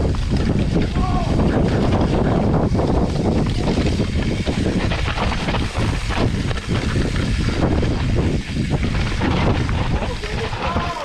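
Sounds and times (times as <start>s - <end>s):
bike knocks and rattles: 0.0s - 11.0s
bike tyres rumbling: 0.0s - 11.0s
wind on microphone: 0.0s - 11.0s.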